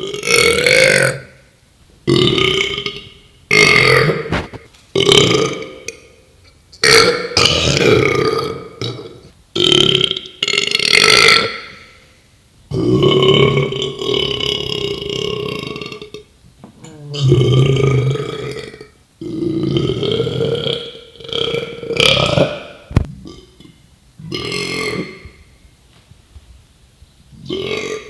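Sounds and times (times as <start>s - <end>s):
man burping loudly: 0.0s - 1.3s, 2.1s - 6.1s, 6.8s - 11.7s, 12.7s - 25.2s, 27.4s - 28.0s.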